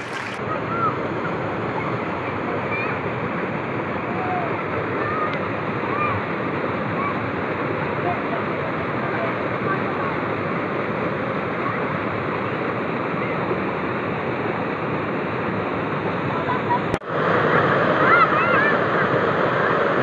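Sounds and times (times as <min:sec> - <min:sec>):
river water pouring over weir: 0:00.0 - 0:16.2.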